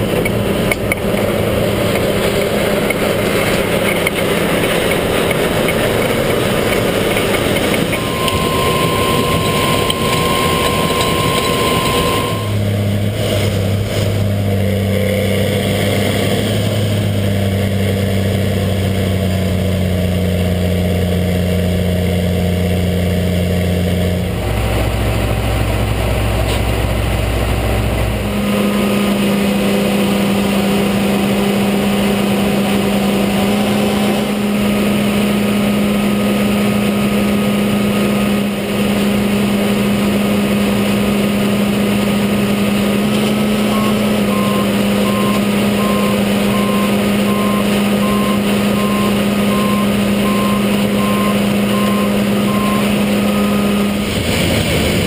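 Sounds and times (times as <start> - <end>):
harvest machinery engines droning: 0.0 - 55.0.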